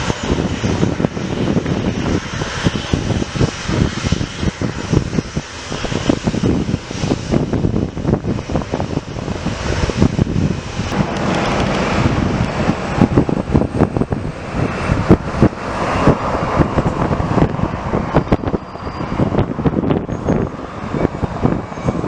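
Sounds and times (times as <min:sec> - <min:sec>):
aircraft engine: 0:00.0 - 0:22.0
wind buffeting microphone: 0:00.0 - 0:22.0.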